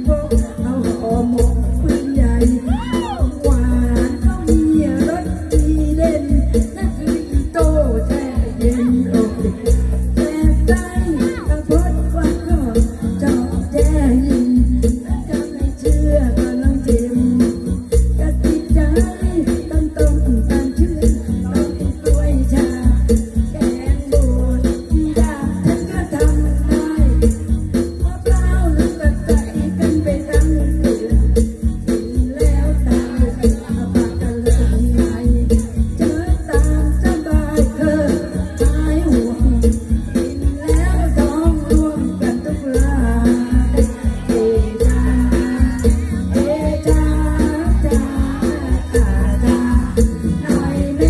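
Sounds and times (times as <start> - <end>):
amplified backing track with bass beat: 0.0 - 51.0
shaker percussion: 0.0 - 51.0
woman singing into a microphone: 0.0 - 51.0.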